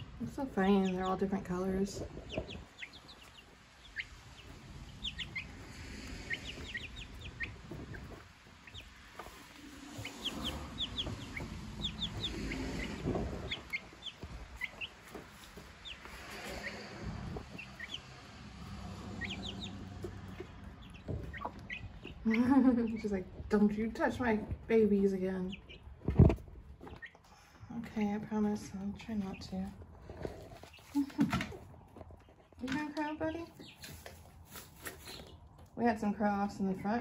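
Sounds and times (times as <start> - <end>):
hen clucking: 0.0 - 35.4
chicks peeping: 0.0 - 37.0.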